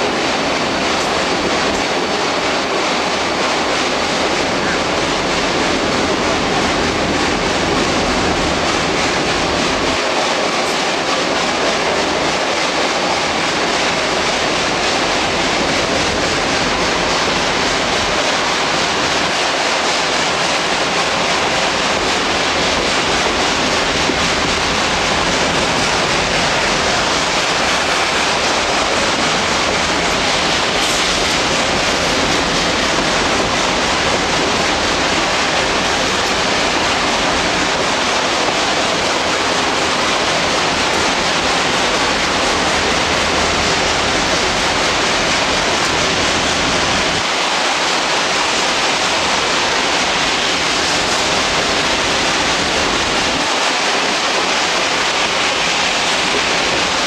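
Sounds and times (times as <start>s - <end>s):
train rolling noise: 0.0s - 57.0s.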